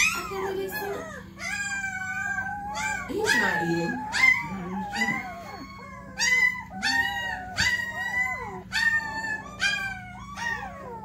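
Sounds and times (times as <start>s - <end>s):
puppies howling and whining: 0.0s - 11.0s.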